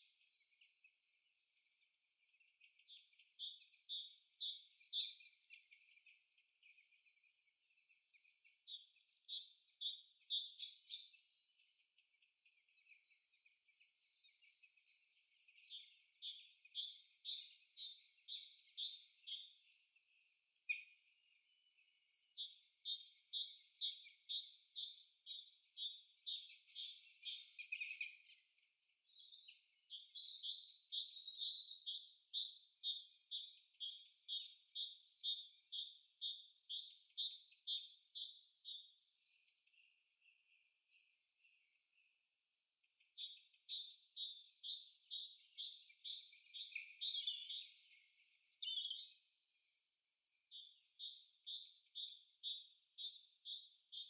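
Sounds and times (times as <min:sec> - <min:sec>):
bird chirping: 0:00.0 - 0:54.0.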